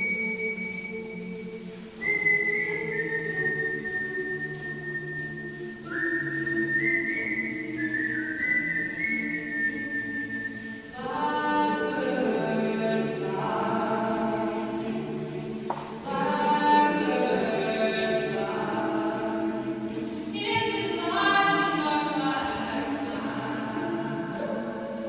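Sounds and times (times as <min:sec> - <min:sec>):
mixed choir singing a cappella: 0:00.0 - 0:25.0.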